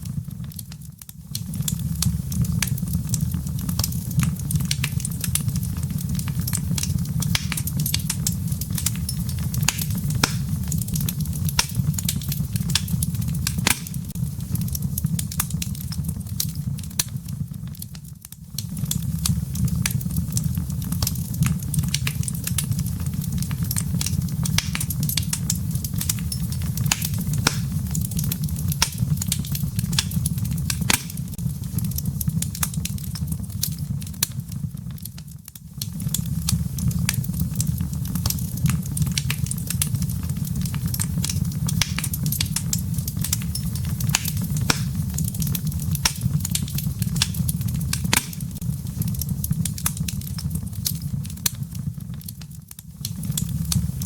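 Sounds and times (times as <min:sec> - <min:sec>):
firewood crackling and popping: 0:00.0 - 0:54.0
low rush of flames: 0:00.0 - 0:54.0.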